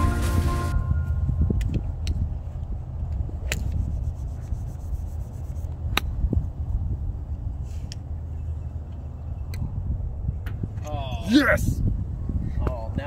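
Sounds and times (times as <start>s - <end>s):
steady low rumble: 0.0s - 11.1s.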